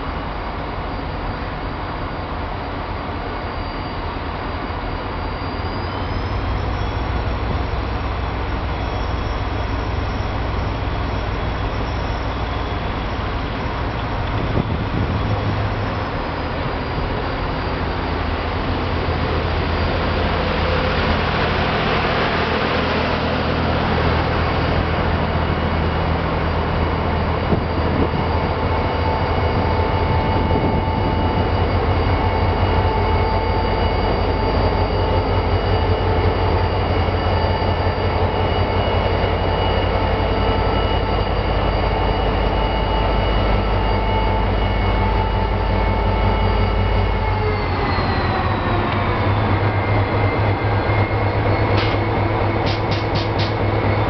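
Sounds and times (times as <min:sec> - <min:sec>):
diesel locomotive engine throbbing: 0:00.0 - 0:54.0
train rumbling on rails: 0:00.0 - 0:54.0.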